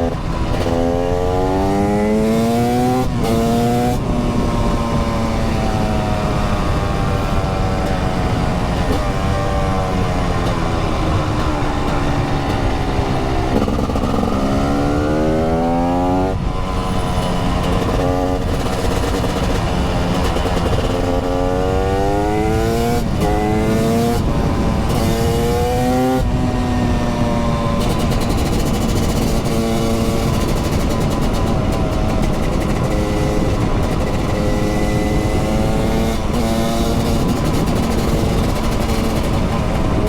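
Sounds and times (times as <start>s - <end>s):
constant low rush: 0.0s - 40.0s
motorcycle engine accelerating: 0.0s - 40.0s.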